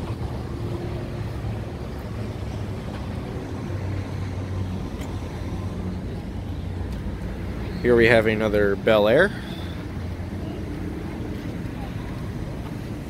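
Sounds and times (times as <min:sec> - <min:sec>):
low engine rumble: 0:00.0 - 0:13.0
outdoor background noise: 0:00.0 - 0:13.0.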